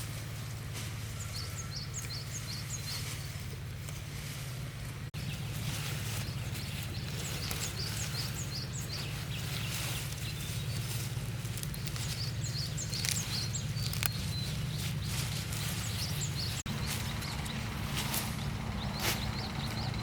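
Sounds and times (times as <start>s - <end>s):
steady low rumble: 0.0s - 20.0s
small birds chirping: 0.5s - 20.0s.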